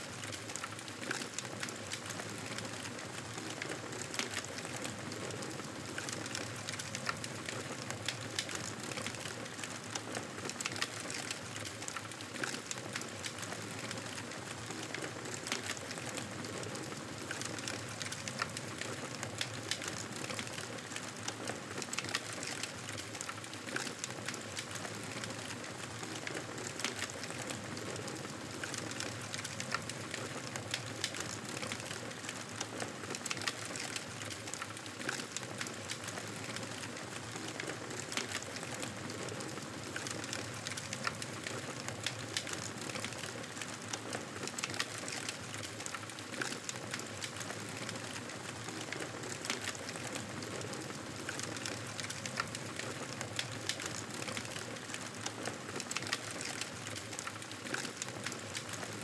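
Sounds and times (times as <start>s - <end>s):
campfire crackling and hissing: 0.0s - 59.0s.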